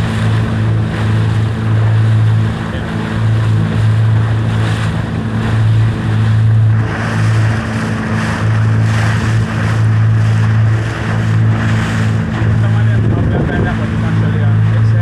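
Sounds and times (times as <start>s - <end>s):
boat engine humming: 0.0s - 15.0s
water rushing: 0.0s - 15.0s
wind buffeting microphone: 0.0s - 15.0s.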